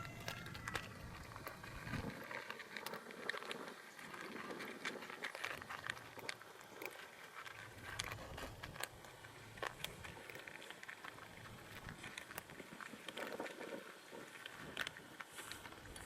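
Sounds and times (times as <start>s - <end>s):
cats crunching dry food: 0.0s - 16.0s.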